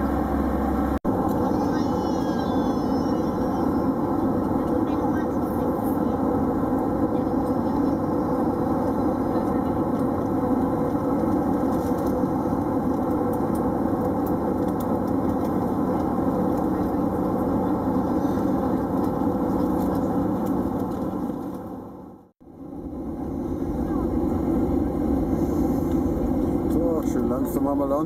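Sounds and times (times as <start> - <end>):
airplane cabin drone: 0.0 - 28.0.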